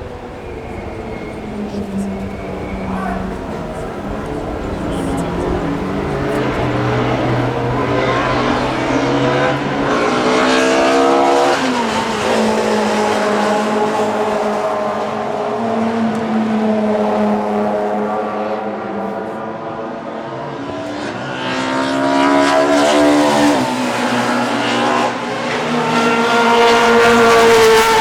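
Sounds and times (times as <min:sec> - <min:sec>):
race car engines droning: 0:00.0 - 0:28.0.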